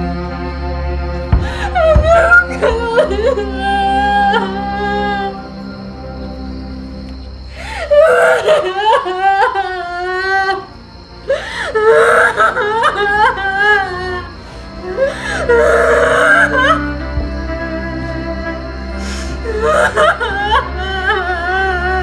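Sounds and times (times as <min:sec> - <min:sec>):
low sustained music score: 0:00.0 - 0:22.0
woman wailing and sobbing: 0:01.3 - 0:05.9, 0:07.6 - 0:22.0.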